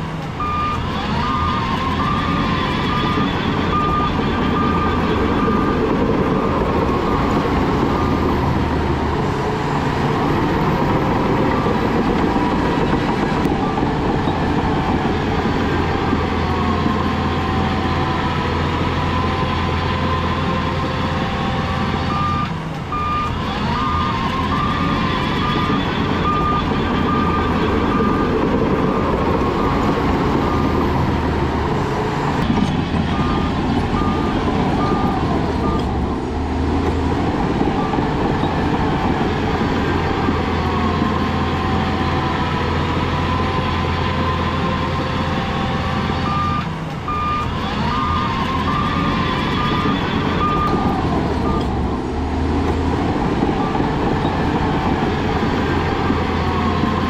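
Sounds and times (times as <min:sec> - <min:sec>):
diesel engine running: 0:00.0 - 0:57.0
reversing alarm beeping: 0:00.4 - 0:09.3, 0:10.0 - 0:52.3.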